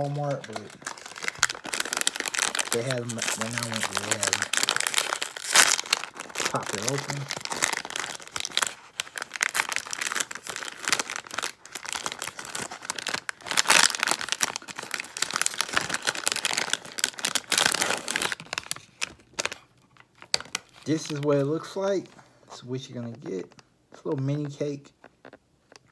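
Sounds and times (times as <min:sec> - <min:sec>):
plastic tray crackling: 0:00.0 - 0:22.0
plastic wrapper crinkling: 0:00.0 - 0:22.2.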